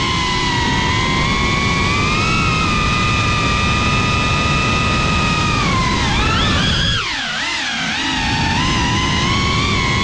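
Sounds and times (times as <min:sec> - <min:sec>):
quadcopter motors whining: 0:00.0 - 0:10.0
rushing wind noise: 0:00.0 - 0:10.0.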